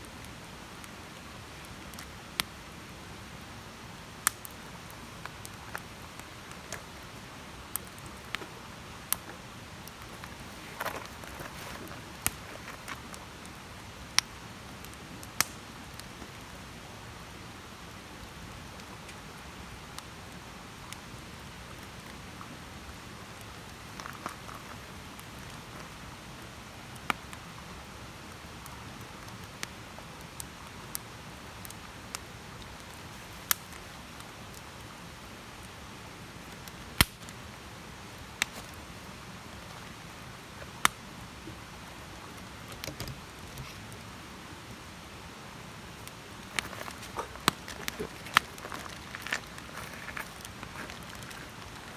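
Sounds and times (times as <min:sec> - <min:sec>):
campfire hissing: 0:00.0 - 0:51.9
fire crackling and popping: 0:00.0 - 0:51.9.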